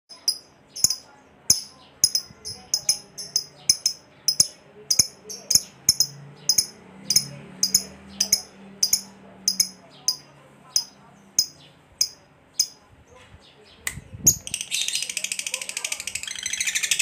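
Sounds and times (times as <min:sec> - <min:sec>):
lovebird chirping rapidly: 0:00.1 - 0:12.8, 0:14.2 - 0:17.0.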